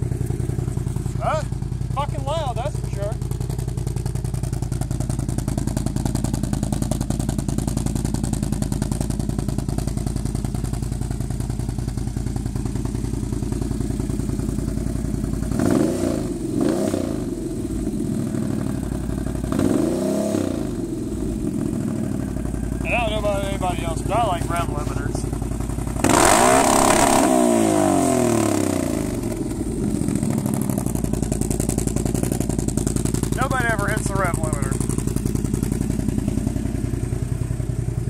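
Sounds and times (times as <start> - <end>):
atv engine idling and revving: 0.0 - 38.0.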